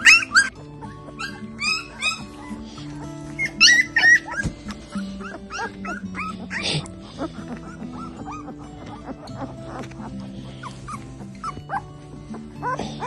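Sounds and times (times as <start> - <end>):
puppies whining: 0.0 - 13.0.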